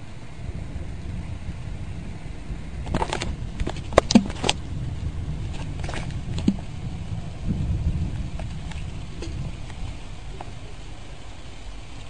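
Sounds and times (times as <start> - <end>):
low thunder rumble: 0.0 - 12.0.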